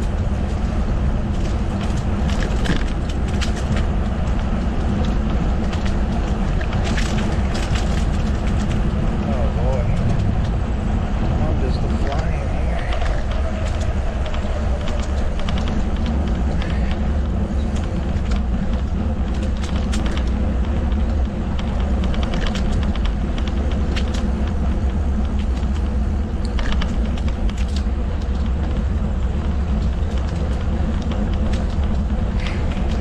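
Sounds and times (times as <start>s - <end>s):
bike clicks and rattles: 0.0s - 33.0s
wind rumble on microphone: 0.0s - 33.0s.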